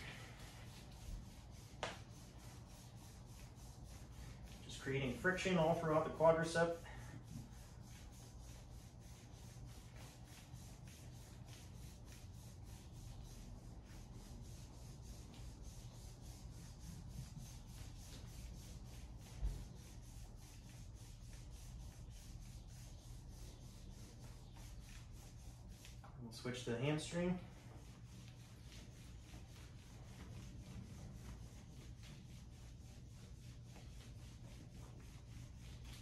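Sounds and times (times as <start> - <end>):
massage roller rubbing on denim: 0.0 - 36.0.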